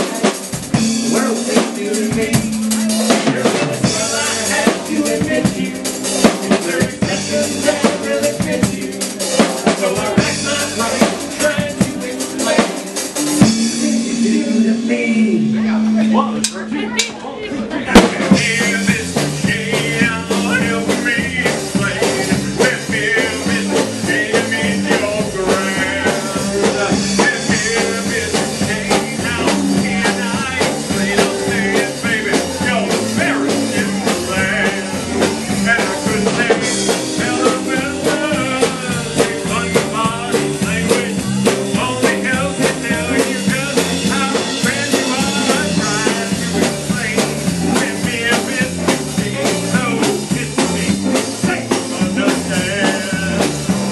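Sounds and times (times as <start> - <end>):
rock and roll song: 0.0 - 53.9.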